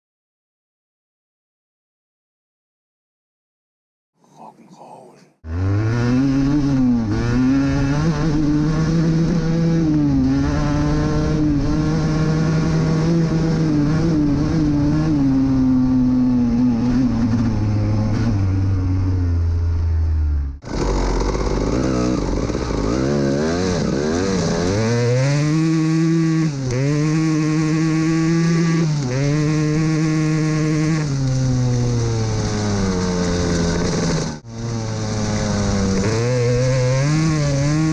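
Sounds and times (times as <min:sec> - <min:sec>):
two-stroke motorcycle engine revving: 0:05.5 - 0:19.8, 0:20.6 - 0:37.9.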